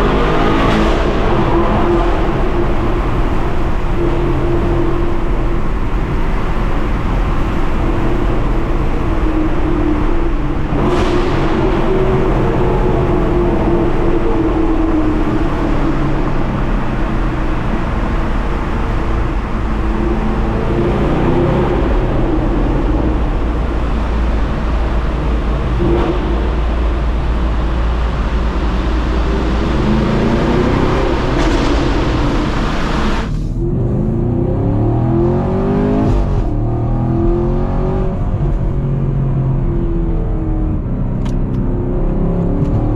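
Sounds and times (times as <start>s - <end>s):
rush of noise: 0.0s - 41.1s
car engine running steadily: 0.0s - 42.9s
road noise: 0.0s - 42.9s.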